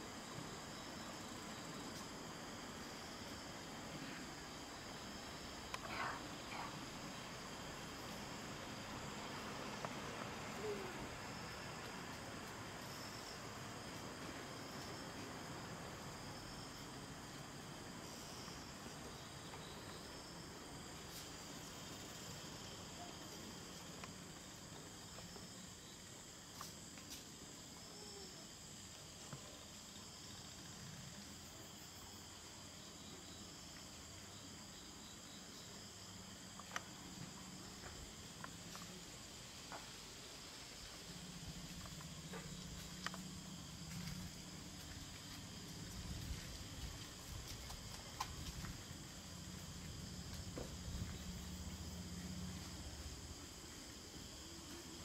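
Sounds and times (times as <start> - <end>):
crickets and night insects chirring: 0.0 - 55.0.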